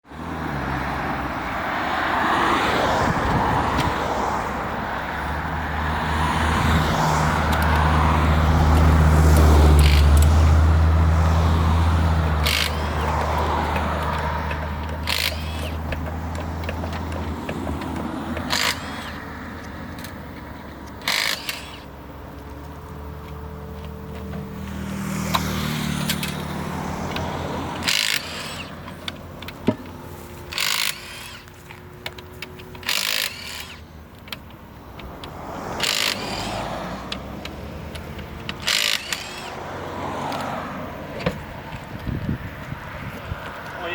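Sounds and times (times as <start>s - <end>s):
sharp clicks and knocks: 7.3s - 39.6s, 40.2s - 43.8s.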